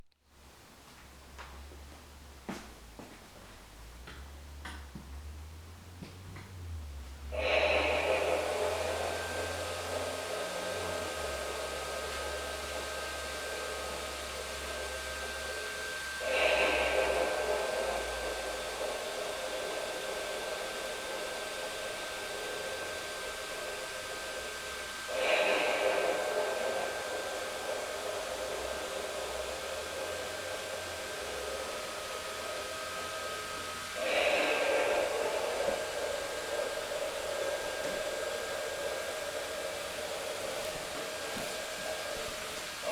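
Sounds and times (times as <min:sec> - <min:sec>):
electric blower fan running: 0:00.5 - 0:42.9
recurring swelling sound: 0:07.2 - 0:42.9.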